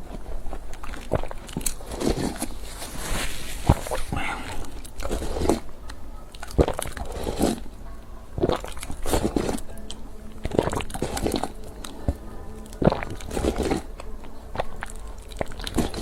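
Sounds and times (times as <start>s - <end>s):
biting and chewing crunchy food: 0.0s - 16.0s.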